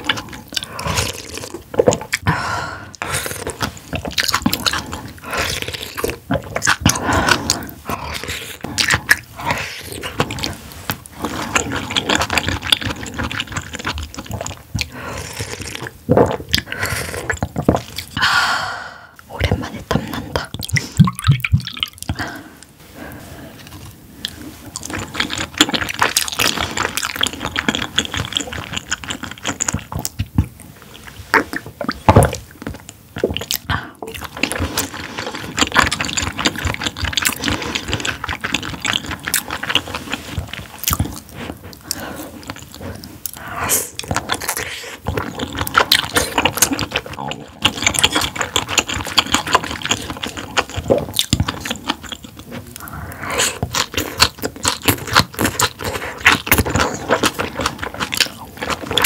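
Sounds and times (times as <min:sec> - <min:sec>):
person chewing: 0:00.0 - 0:18.4, 0:19.1 - 0:59.0.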